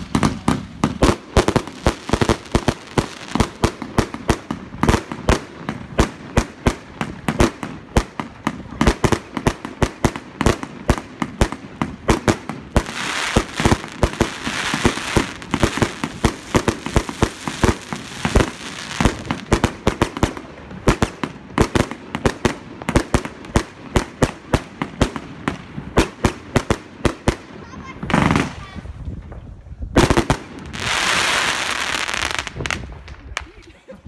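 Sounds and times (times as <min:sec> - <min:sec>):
fireworks banging: 0:00.0 - 0:33.7
fireworks crackling: 0:00.0 - 0:33.9.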